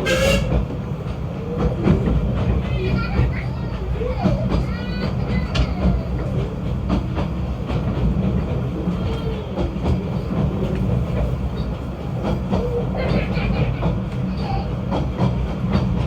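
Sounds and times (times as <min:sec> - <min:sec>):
train clanks and rattles: 0:00.0 - 0:16.0
train rumbling: 0:00.0 - 0:16.0.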